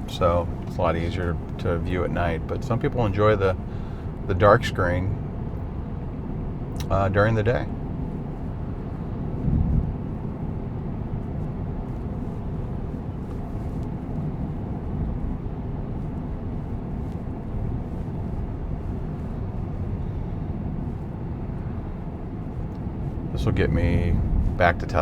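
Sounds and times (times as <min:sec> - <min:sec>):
road and tyre noise inside car: 0:00.0 - 0:25.0.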